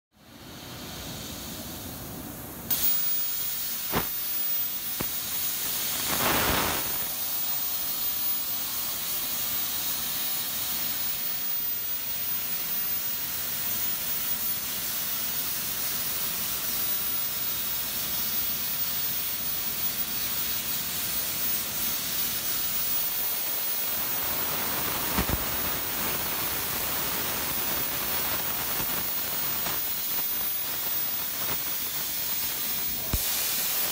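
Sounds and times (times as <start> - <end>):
plasma cutting torch hissing: 0.3 - 33.9.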